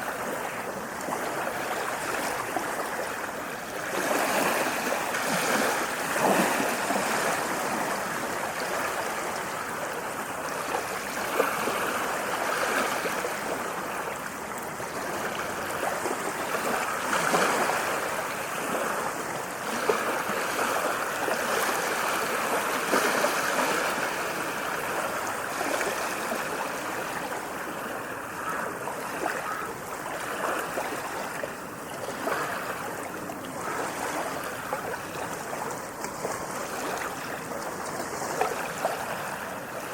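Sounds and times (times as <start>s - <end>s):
small waves washing: 0.0s - 39.9s.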